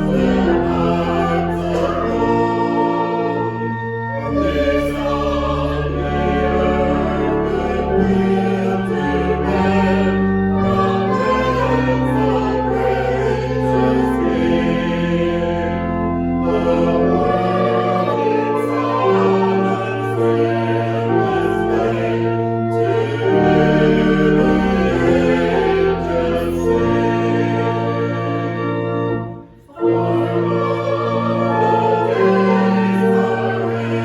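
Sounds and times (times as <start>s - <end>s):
choir singing held chords: 0.0s - 34.0s.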